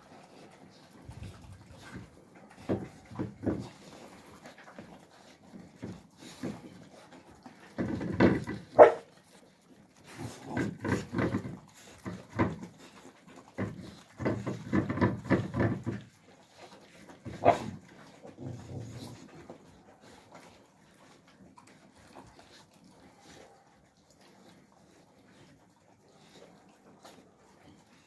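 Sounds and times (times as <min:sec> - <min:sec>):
puppies chewing and lapping: 0:00.0 - 0:28.0.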